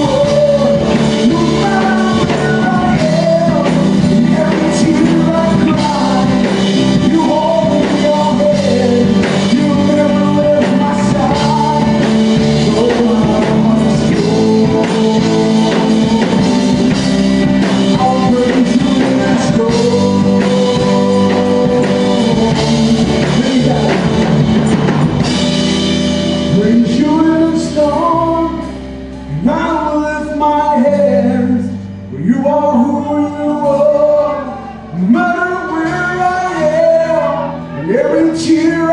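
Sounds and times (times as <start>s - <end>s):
drum kit: 0.0s - 38.9s
gospel band playing: 0.0s - 38.9s
person singing: 0.0s - 38.9s.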